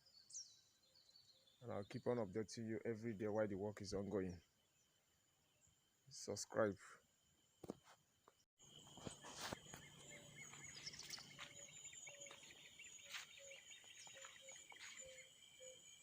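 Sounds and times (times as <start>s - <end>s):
insects trilling: 1.5s - 16.0s.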